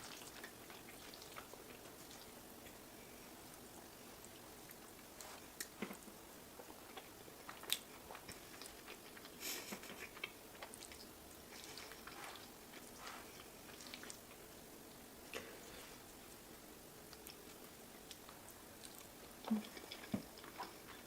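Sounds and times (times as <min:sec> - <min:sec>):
person chewing and eating: 0:00.0 - 0:21.0.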